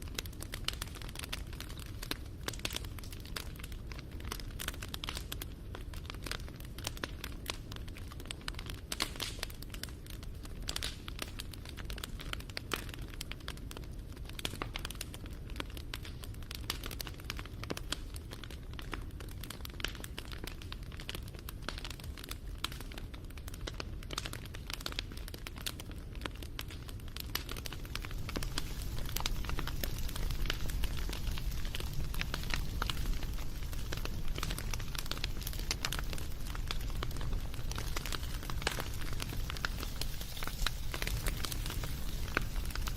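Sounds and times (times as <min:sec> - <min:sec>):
bonfire crackling: 0:00.0 - 0:42.9
low rumble of flame: 0:00.0 - 0:42.9.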